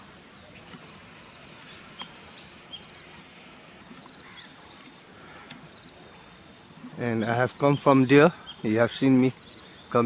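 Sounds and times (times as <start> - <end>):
insect hum: 0.0 - 10.0
bird chirps: 0.1 - 3.2, 4.0 - 5.0, 5.7 - 10.0.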